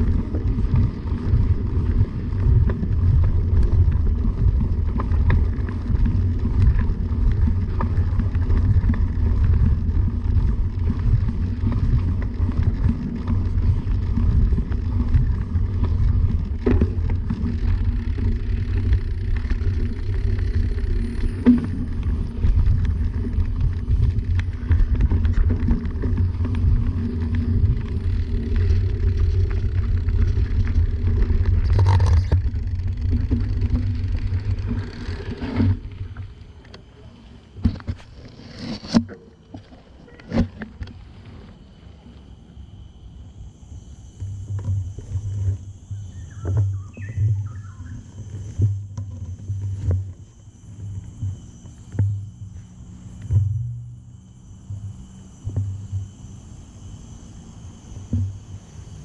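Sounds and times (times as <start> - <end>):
bike tyres rumbling on dirt: 0.0 - 42.1, 44.2 - 59.0.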